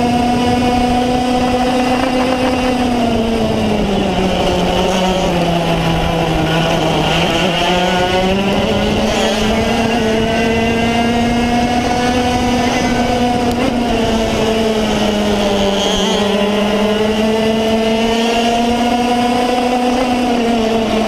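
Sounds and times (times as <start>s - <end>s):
racing kart engine revving: 0.0s - 21.0s.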